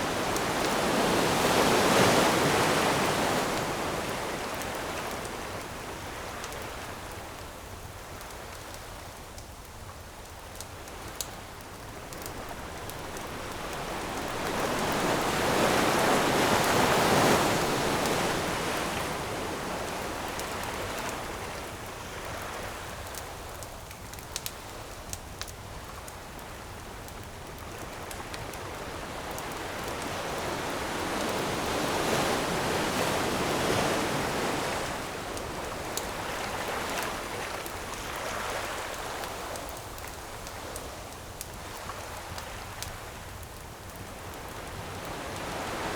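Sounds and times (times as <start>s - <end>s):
ocean waves washing ashore: 0.0s - 9.2s, 10.6s - 23.7s, 27.8s - 45.9s
campfire crackles: 0.0s - 45.9s.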